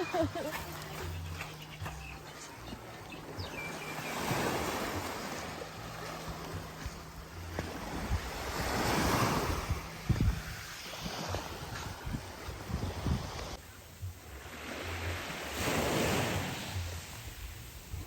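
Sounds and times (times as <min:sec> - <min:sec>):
sea waves washing on beach: 0:00.0 - 0:18.0.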